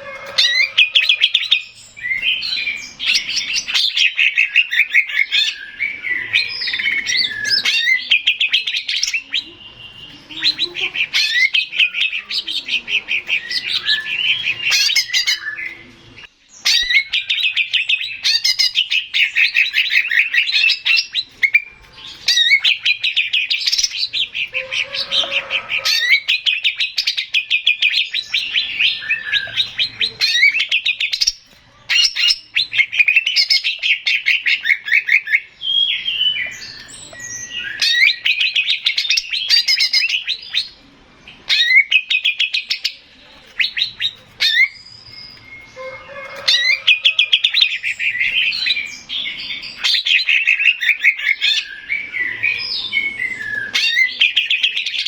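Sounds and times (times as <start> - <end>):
bird singing trills and whistles: 0.0 - 55.0.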